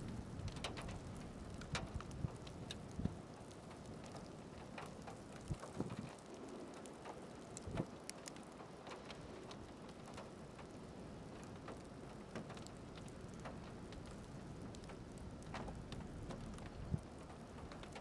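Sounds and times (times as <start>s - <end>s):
raindrop ticks: 0.0s - 18.0s.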